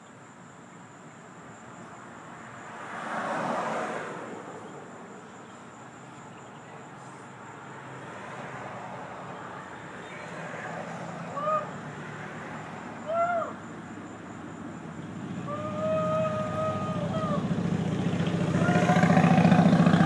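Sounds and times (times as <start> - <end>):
insects chirring: 0.0 - 20.0
vehicle passing: 2.3 - 20.0.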